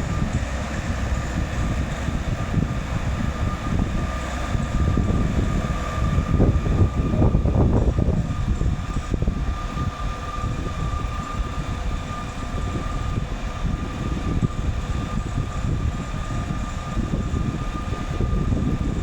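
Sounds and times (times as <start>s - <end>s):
excavator diesel engine rumbling: 0.0s - 19.0s.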